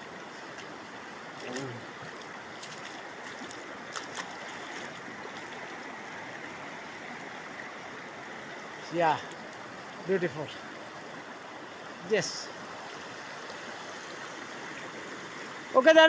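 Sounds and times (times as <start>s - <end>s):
stream rushing over stones: 0.0s - 16.0s.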